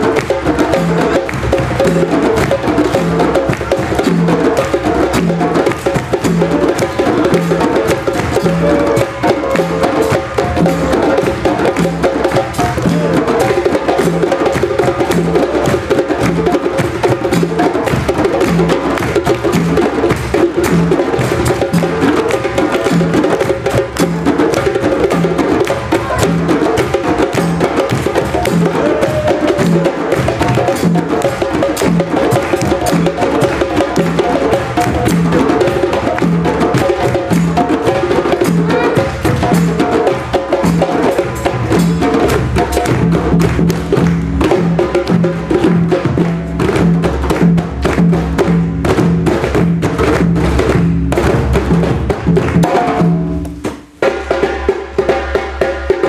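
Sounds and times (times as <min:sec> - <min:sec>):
hand drums playing: 0:00.0 - 0:56.0.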